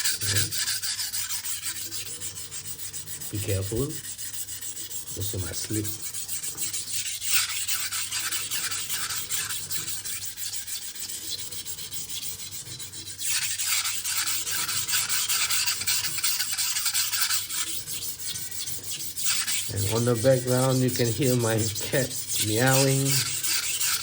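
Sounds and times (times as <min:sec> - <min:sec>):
knife scraping on sharpening stone: 0:00.0 - 0:24.0.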